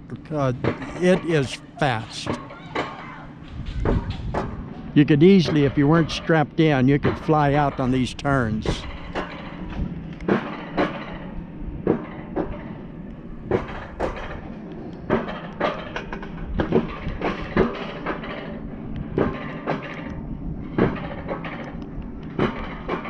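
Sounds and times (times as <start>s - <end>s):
wheels rumbling on rails: 0.0s - 23.0s.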